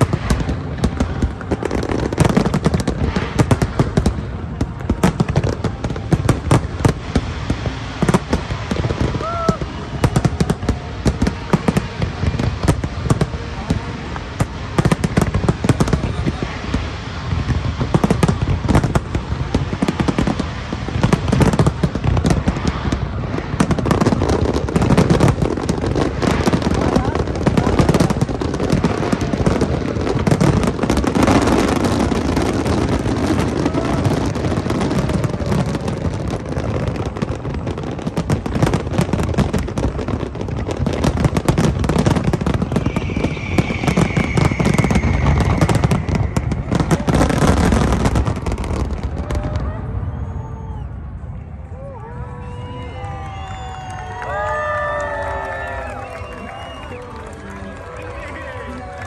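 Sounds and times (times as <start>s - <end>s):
fireworks bursting and crackling: 0.0s - 59.0s
high firework whistle: 4.8s - 51.2s, 52.0s - 59.0s.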